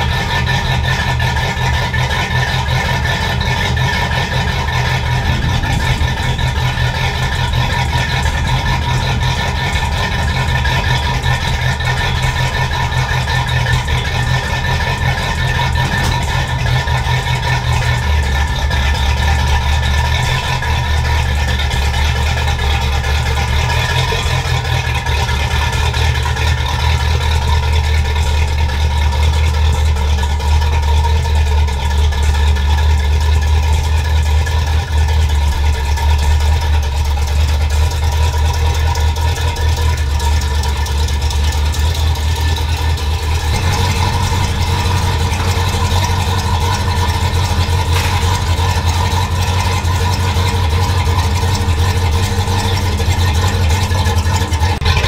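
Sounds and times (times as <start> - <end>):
car engine running steadily: 0.0 - 55.0.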